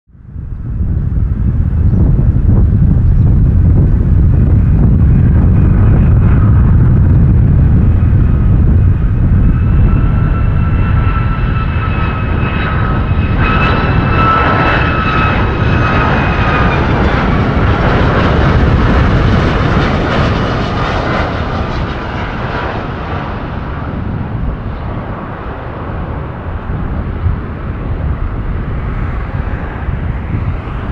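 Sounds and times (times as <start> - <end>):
jet engines rumbling and whining: 0.1 - 30.9.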